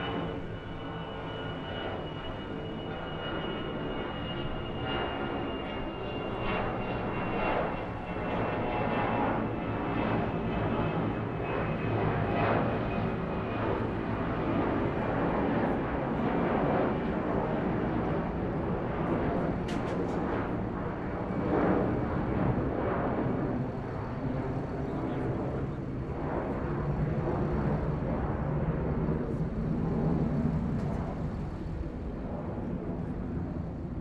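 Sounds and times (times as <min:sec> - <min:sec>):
airplane engine running: 0:00.0 - 0:34.0.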